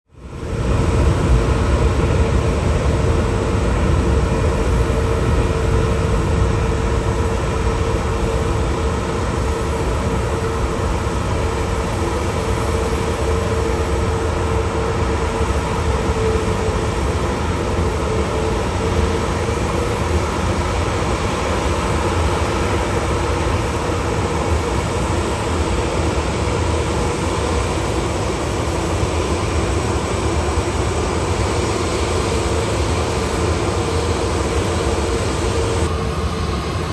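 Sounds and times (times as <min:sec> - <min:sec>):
jet engines idling: 0:00.2 - 0:36.9.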